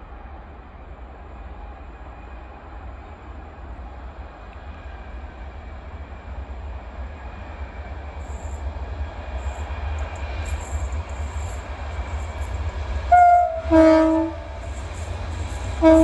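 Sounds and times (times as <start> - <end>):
distant train rumble: 0.0 - 16.0.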